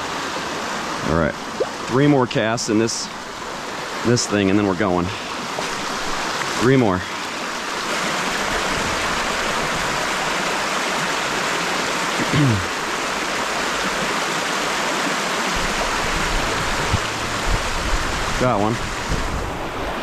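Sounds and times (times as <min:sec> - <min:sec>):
water rushing over spillway: 0:00.0 - 0:20.0.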